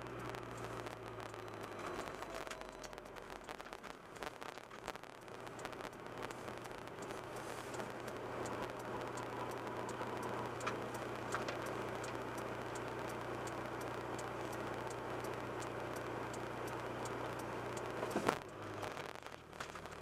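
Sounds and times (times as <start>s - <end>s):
car engine hum: 0.0s - 20.0s
turn indicator ticking: 0.0s - 20.0s.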